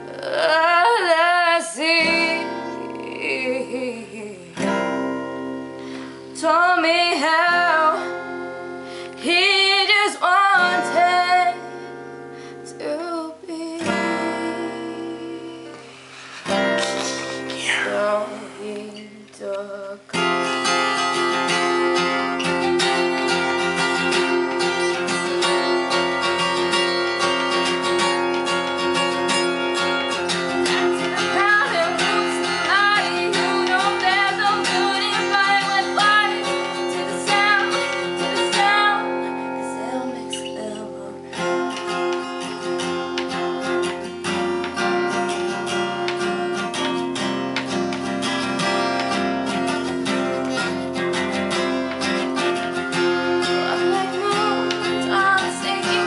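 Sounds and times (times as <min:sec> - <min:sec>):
acoustic guitar: 0:00.0 - 0:56.0
woman singing: 0:00.0 - 0:56.0.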